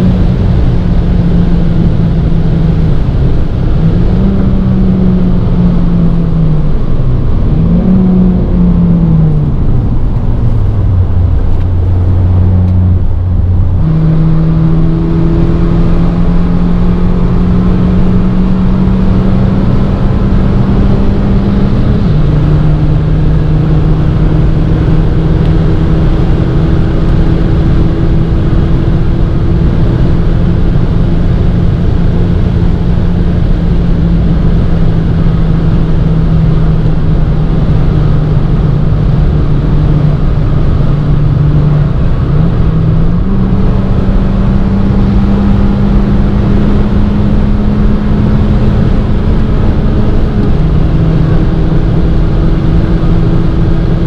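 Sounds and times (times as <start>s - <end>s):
car engine pulling at high revs: 0.0s - 54.0s
wind noise: 0.0s - 54.0s.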